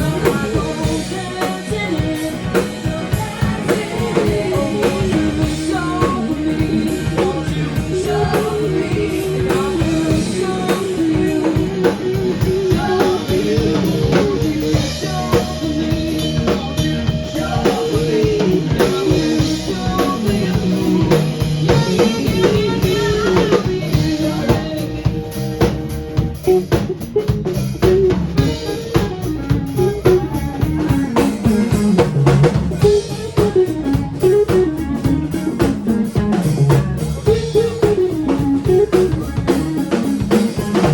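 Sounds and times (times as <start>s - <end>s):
person singing: 0.0s - 25.4s, 28.4s - 40.9s
drum kit beat: 0.0s - 40.9s
rock band playing: 0.0s - 40.9s.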